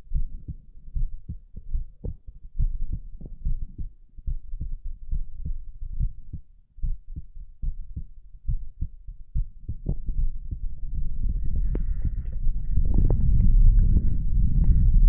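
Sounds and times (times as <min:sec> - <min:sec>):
heartbeat thumps: 0:00.0 - 0:15.0
low rumble: 0:00.0 - 0:15.0.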